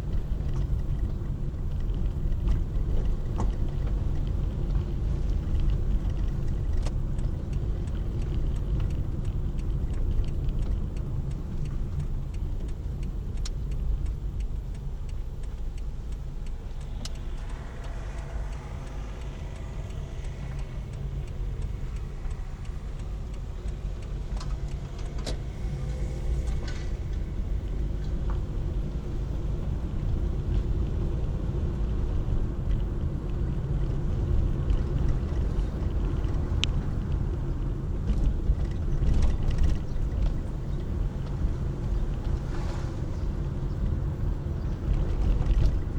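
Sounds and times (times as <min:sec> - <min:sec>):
road and engine rumble in car: 0:00.0 - 0:45.9.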